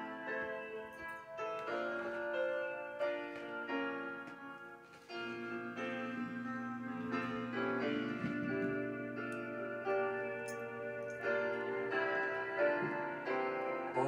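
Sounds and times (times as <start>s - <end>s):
piano melody on backing track: 0.0s - 14.0s.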